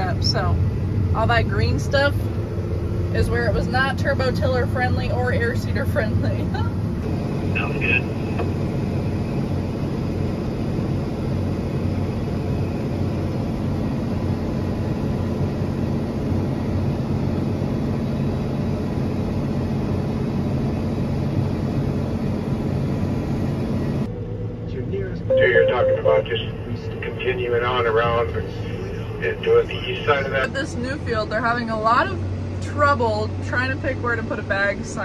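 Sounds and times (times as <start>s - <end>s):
tracked tractor engine droning: 0.0s - 35.0s.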